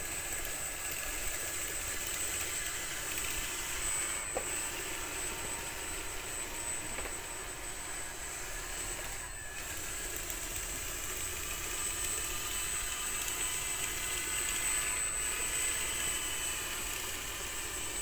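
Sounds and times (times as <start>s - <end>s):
small motor whining: 0.0s - 18.0s.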